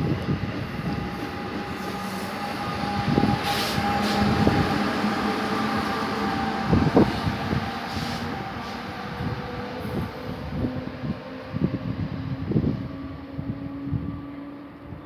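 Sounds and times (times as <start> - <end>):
electric train whine and rumble: 0.0 - 15.0.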